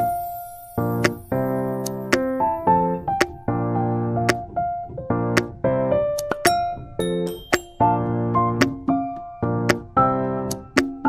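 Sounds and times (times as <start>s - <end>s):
keyboard chords: 0.0s - 11.0s.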